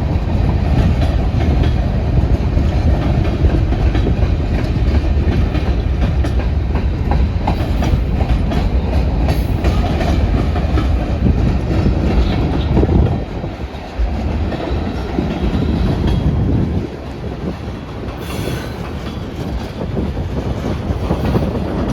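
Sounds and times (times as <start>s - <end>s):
freight train rolling past: 0.0s - 21.9s
wheels clacking over rail joints: 0.0s - 21.9s.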